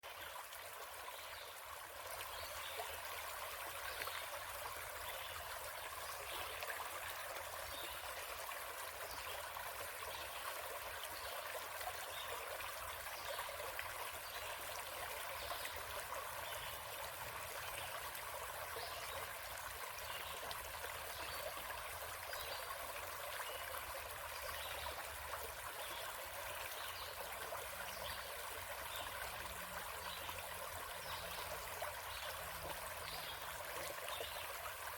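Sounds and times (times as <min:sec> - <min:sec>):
stream of running water: 0:00.0 - 0:34.9.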